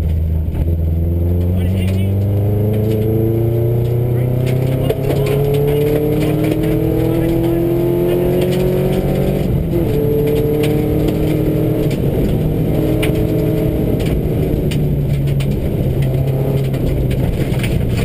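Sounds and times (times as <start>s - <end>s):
rally car engine running hard: 0.0s - 18.0s.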